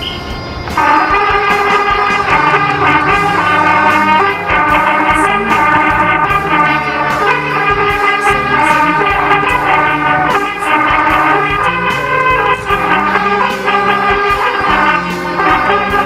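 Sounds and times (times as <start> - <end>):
brass band music: 0.0 - 16.0.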